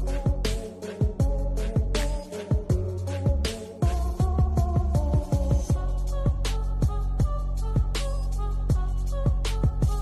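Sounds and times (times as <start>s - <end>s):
electronic beat with deep kicks: 0.0s - 10.0s.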